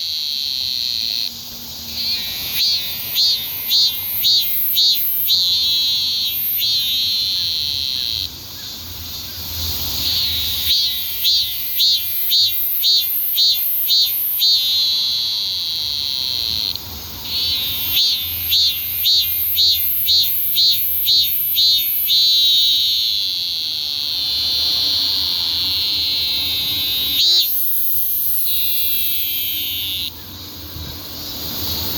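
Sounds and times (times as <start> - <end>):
cicadas buzzing: 0.0 - 31.9.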